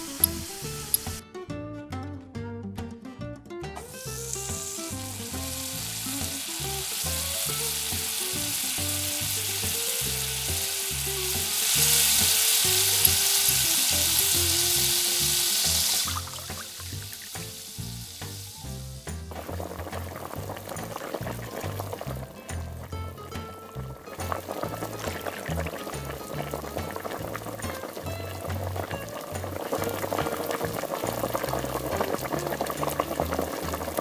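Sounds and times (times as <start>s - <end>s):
food sizzling in a pot: 0.0s - 1.2s, 3.8s - 34.0s
background music: 0.0s - 34.0s.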